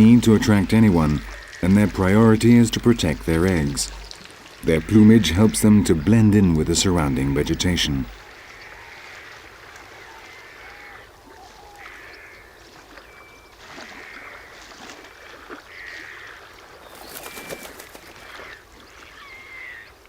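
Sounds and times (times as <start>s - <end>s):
wetland birds and ducks calling: 0.0s - 20.0s.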